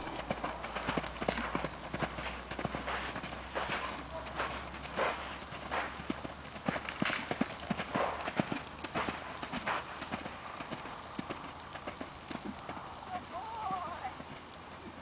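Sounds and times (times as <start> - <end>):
hoofbeats on sand: 0.0 - 14.4.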